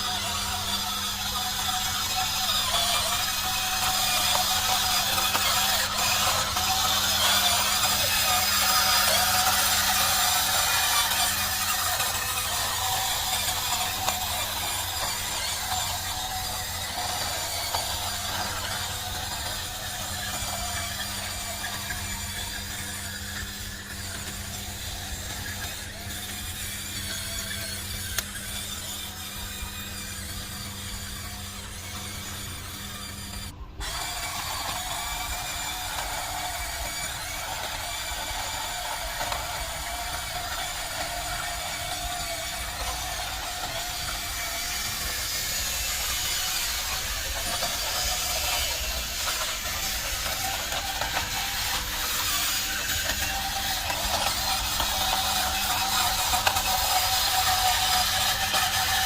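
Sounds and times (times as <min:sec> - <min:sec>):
toy electric motors whirring: 0:00.0 - 0:59.0.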